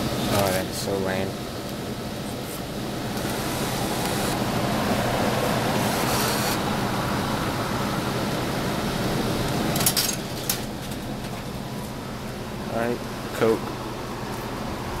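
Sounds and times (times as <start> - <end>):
vending machine hum: 0.0 - 15.0.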